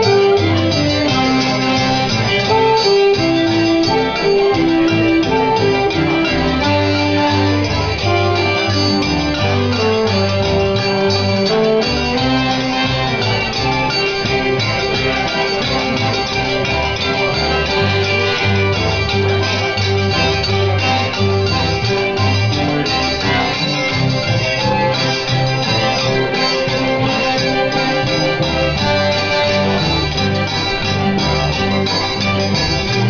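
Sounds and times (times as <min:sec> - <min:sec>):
fiddles and guitars playing: 0:00.0 - 0:33.0.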